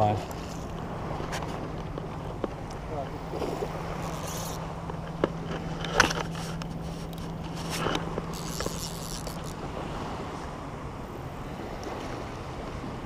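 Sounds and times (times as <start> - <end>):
steady low hum: 0.0 - 13.0
water washing at hull: 0.0 - 13.0.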